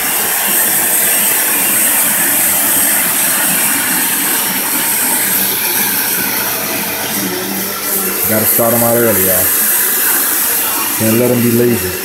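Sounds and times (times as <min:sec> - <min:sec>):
faint high whine: 0:00.0 - 0:12.0
vacuum cleaner motor running: 0:00.0 - 0:12.0.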